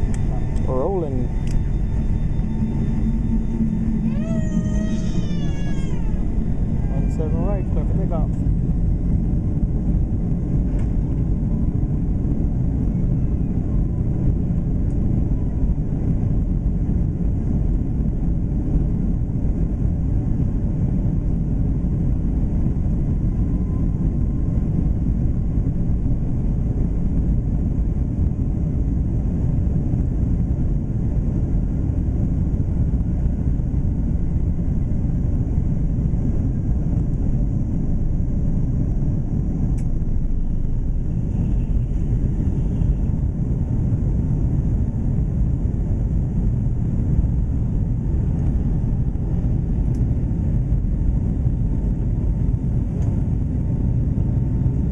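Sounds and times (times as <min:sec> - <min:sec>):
airliner engines rumbling: 0:00.0 - 0:54.9.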